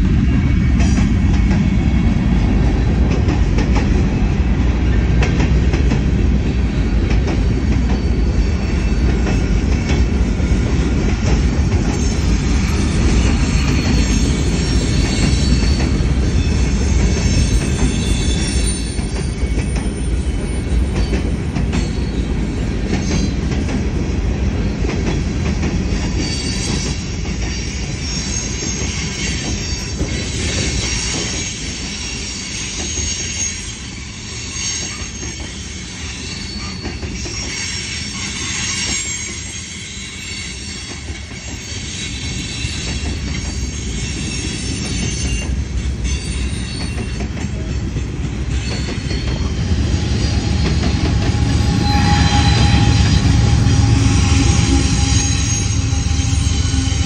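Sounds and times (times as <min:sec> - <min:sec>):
freight train rumbling past: 0:00.0 - 0:57.0
train wheel squeal: 0:00.0 - 0:57.0.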